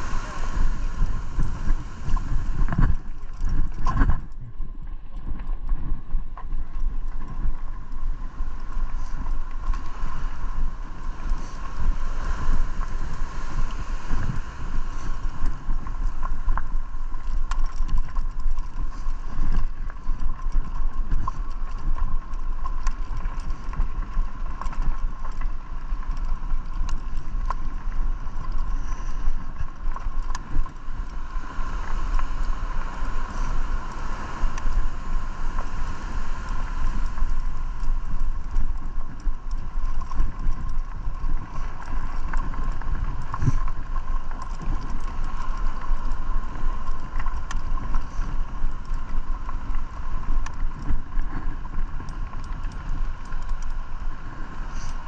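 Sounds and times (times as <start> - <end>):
bike tyres crunching on gravel: 0.0 - 4.4, 6.2 - 55.0.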